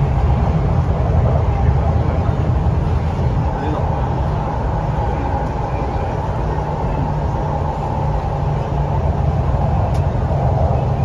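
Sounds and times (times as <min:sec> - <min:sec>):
train rumble from inside: 0:00.0 - 0:11.0.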